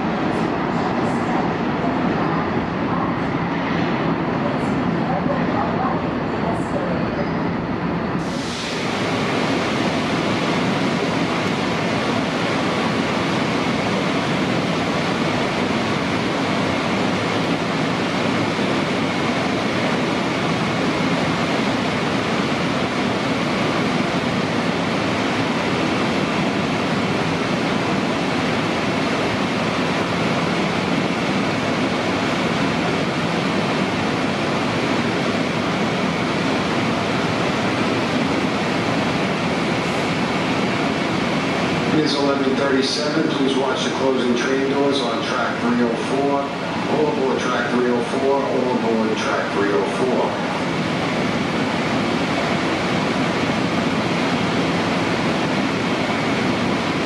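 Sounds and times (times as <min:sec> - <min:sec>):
train ventilation fans running: 0:00.0 - 0:57.0.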